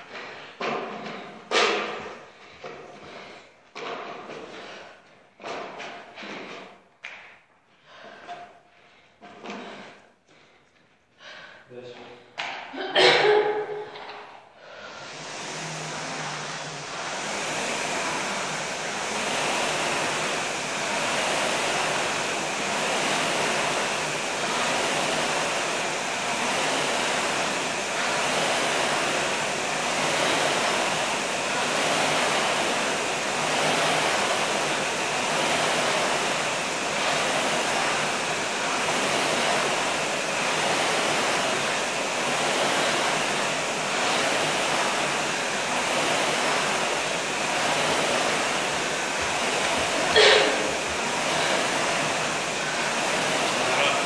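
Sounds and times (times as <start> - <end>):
rowing machine fan whooshing: 0.0 - 54.0.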